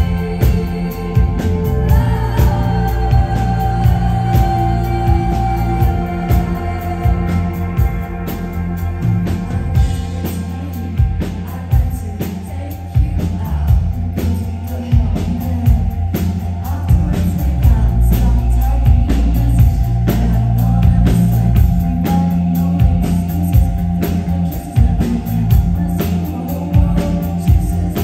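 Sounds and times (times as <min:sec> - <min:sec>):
rock band playing: 0:00.0 - 0:28.0
woman singing: 0:00.0 - 0:28.0.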